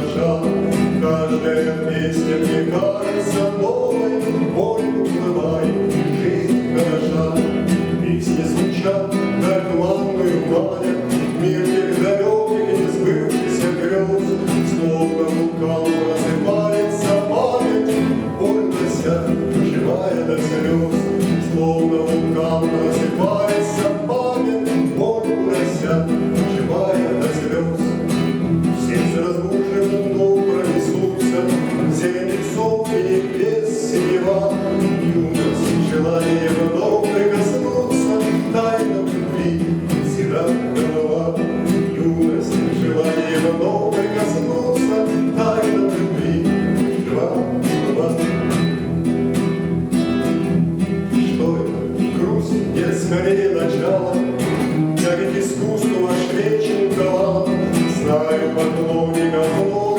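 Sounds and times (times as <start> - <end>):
strummed acoustic guitar: 0.0 - 59.9.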